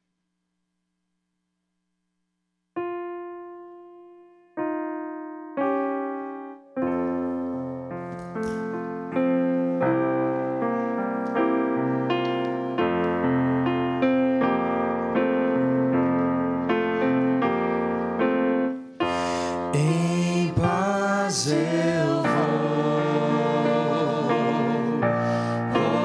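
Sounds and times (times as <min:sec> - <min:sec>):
piano music: 0:02.8 - 0:26.0.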